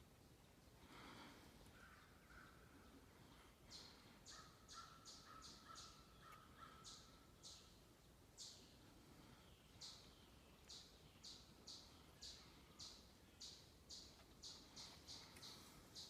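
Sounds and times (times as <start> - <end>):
thin steady bird call: 0.9 - 16.0.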